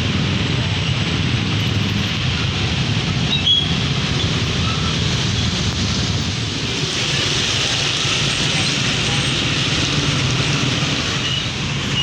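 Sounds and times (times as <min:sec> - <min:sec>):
large vehicle engine rumble: 0:00.0 - 0:12.0
tyres hissing on wet road: 0:00.0 - 0:12.0.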